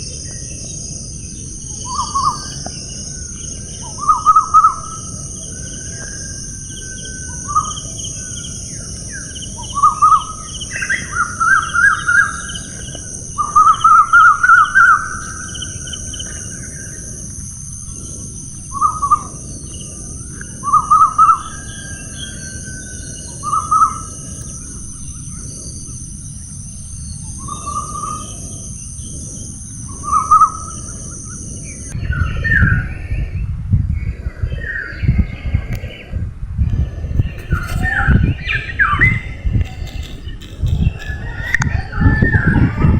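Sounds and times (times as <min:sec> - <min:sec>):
birds calling: 0:00.0 - 0:33.4, 0:36.8 - 0:42.7
high-pitched background hiss: 0:00.0 - 0:42.9.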